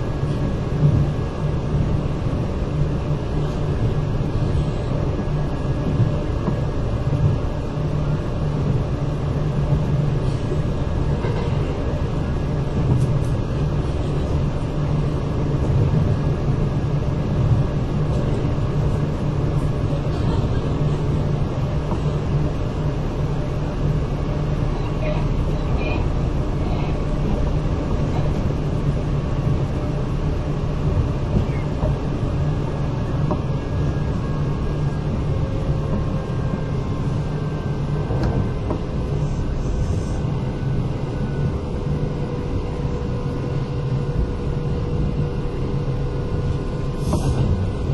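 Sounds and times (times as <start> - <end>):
train wheels and motors rumbling: 0.0 - 47.9.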